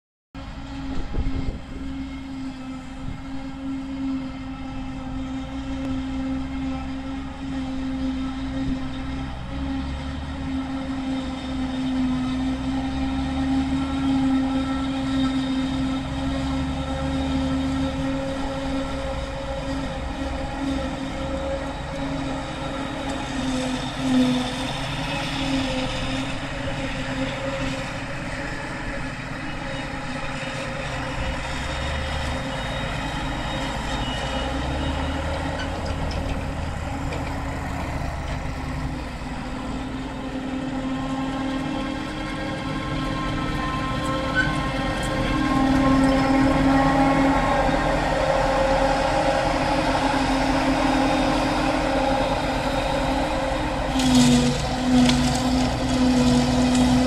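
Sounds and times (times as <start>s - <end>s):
tractor engines running: 0.4s - 57.0s
forage harvester chopping grass: 0.6s - 33.4s, 34.0s - 57.0s.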